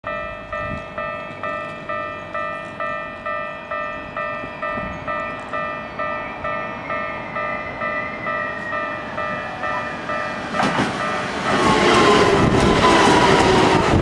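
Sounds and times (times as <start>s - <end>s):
level crossing bell ringing: 0.0s - 11.7s.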